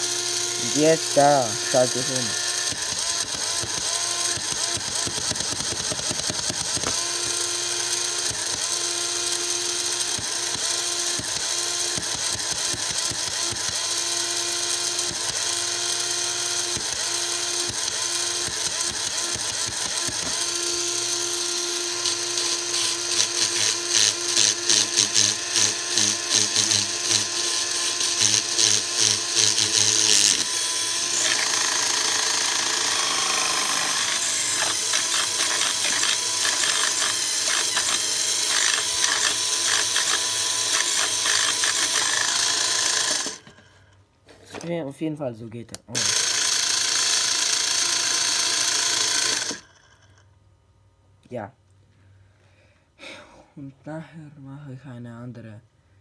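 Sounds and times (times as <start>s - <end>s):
toy motor and gears whirring: 0.0s - 43.8s, 45.9s - 50.2s.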